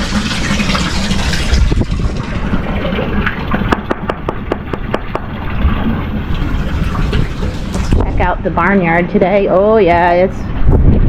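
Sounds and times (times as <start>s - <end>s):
wind buffeting microphone: 0.4s - 11.0s.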